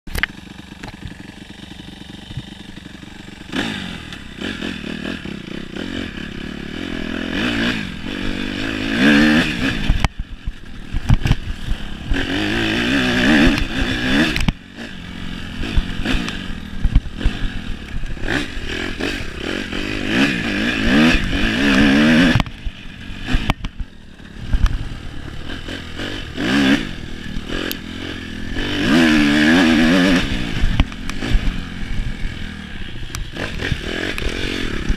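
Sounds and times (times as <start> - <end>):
knocks and rattles from bike: 0.1 - 34.9
motorcycle engine revving: 0.1 - 34.9.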